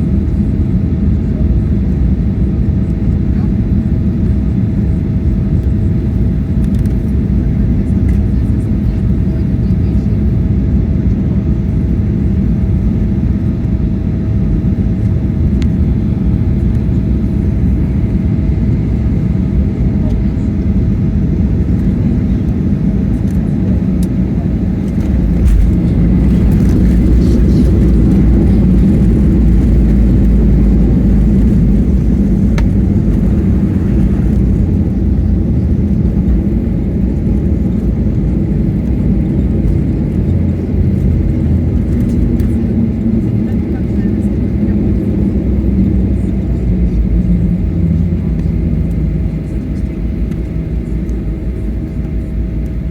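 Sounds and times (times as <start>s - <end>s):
aircraft cabin rumble: 0.0s - 52.9s.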